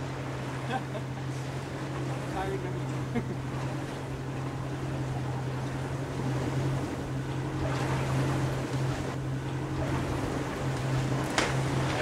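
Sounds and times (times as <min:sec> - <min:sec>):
boat engine humming: 0:00.0 - 0:12.0
sea water washing: 0:00.0 - 0:12.0
wind: 0:00.0 - 0:12.0.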